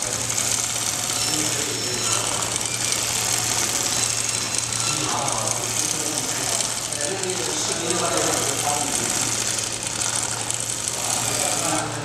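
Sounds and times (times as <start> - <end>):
low machine hum: 0.0 - 12.0
sewing machine rattling: 0.0 - 12.0.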